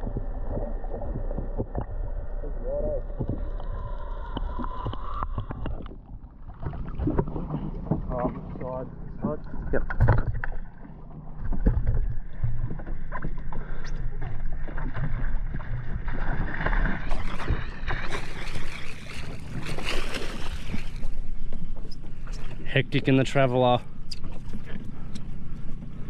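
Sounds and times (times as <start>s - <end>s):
boat motor running: 0.0s - 26.0s
water noise: 0.0s - 26.0s.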